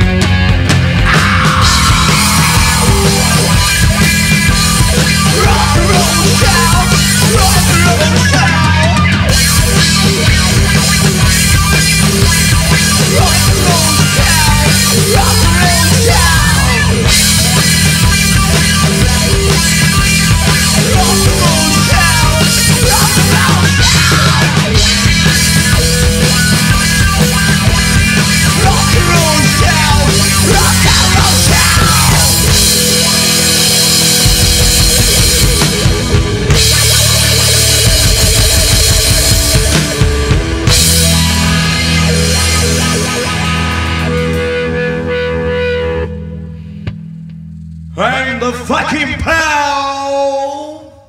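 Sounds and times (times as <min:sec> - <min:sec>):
drum kit: 0:00.0 - 0:46.1
rock band playing live: 0:00.0 - 0:50.6
gliding electric guitar lines: 0:00.6 - 0:47.8.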